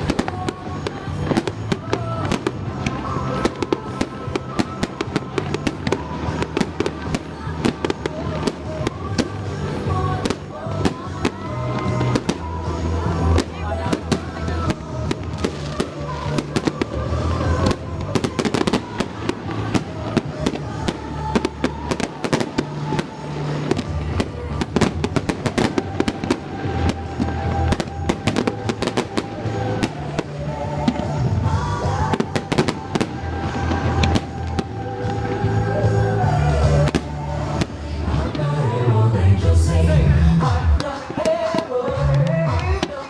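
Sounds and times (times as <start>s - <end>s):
fireworks bangs and crackling: 0.0s - 43.0s
pop music over loudspeakers: 0.0s - 43.0s.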